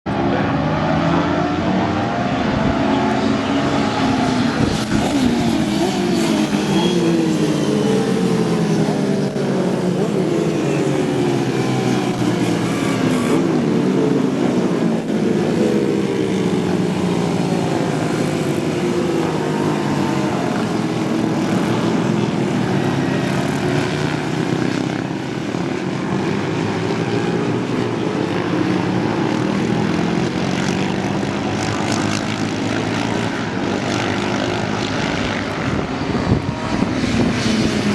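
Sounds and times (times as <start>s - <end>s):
motorcycle engines revving: 0.1s - 37.9s.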